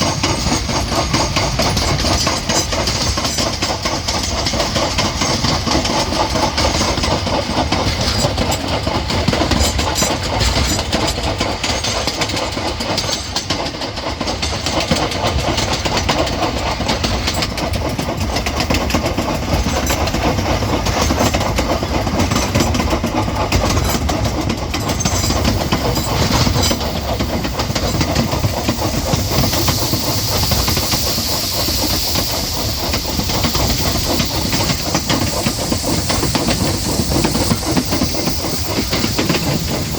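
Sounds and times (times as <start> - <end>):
steam hiss: 0.0 - 39.9
train wheels clattering on track: 0.0 - 39.9.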